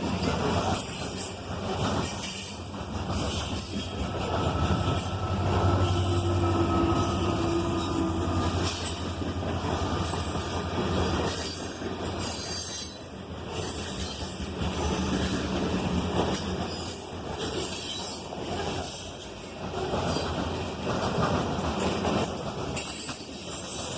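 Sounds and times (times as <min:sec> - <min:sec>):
freight train wheels rumbling: 0:00.0 - 0:23.9.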